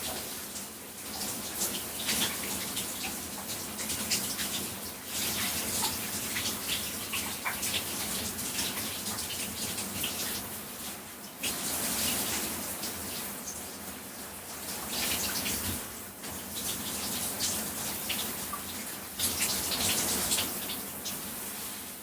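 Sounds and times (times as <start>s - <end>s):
shower water splashing on body: 0.0s - 22.0s.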